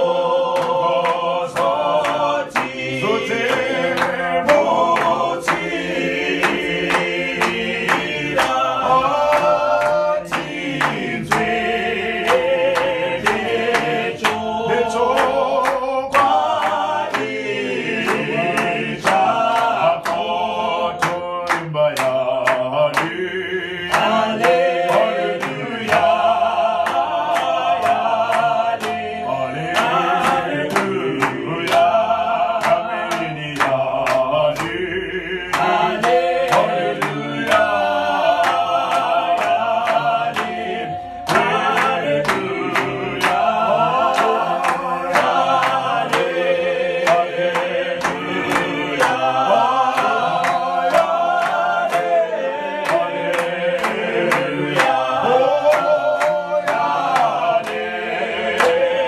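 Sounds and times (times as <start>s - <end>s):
choir singing a hymn a cappella: 0.0s - 59.0s
hand clapping: 0.0s - 59.0s.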